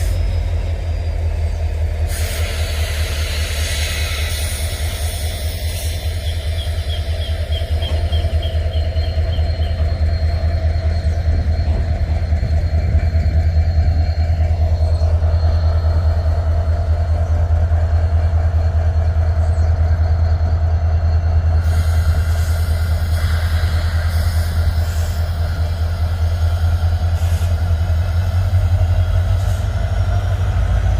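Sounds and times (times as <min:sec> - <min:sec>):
freight train rumbling past: 0:00.0 - 0:30.9.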